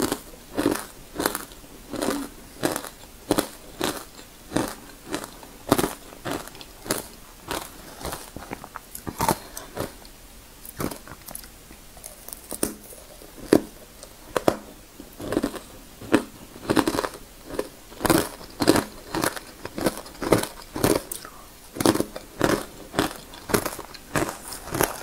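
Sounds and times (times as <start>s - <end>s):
chewing crunches: 0.0s - 14.6s, 15.2s - 25.0s.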